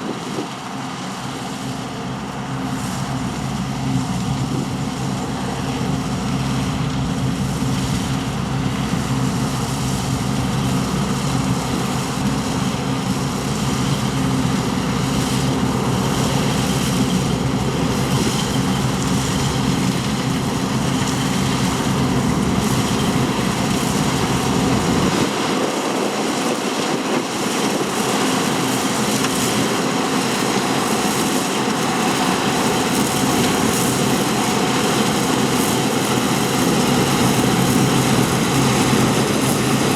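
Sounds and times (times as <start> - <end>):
diesel farm machinery engine: 0.0 - 39.9.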